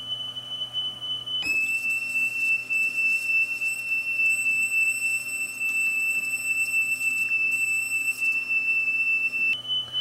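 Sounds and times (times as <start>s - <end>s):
wavering high test tone: 0.0s - 10.0s.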